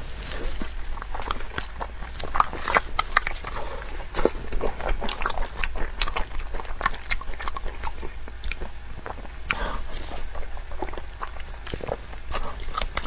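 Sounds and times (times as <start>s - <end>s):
biting and chewing food: 0.0s - 13.0s.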